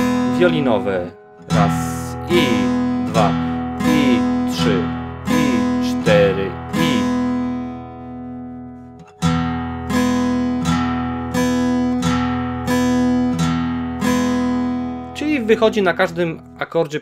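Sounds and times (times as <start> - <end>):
acoustic guitar strummed slowly: 0.0 - 16.9.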